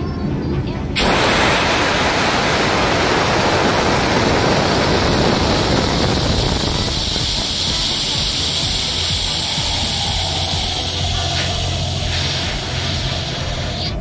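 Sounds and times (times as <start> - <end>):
engine rumble: 0.0 - 14.0
air compressor hissing: 1.0 - 14.0.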